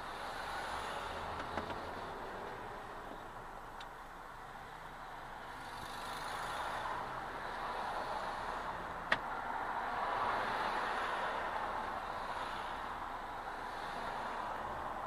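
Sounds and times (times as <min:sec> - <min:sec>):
road vehicle noise: 0:00.0 - 0:15.0.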